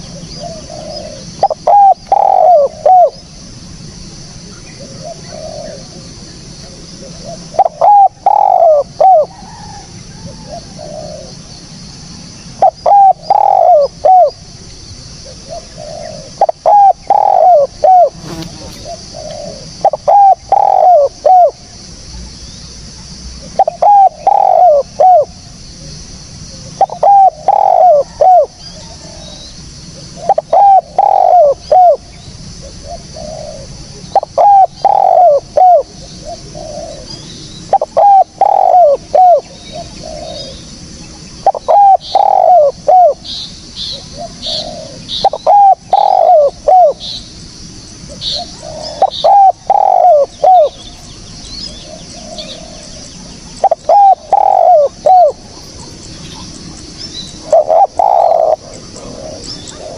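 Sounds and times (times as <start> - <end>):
dove cooing: 0.0 - 3.3, 4.5 - 11.5, 12.5 - 14.4, 15.2 - 21.6, 23.4 - 25.4, 26.5 - 29.4, 30.0 - 47.2, 48.1 - 59.9
faint high hiss: 0.0 - 59.9.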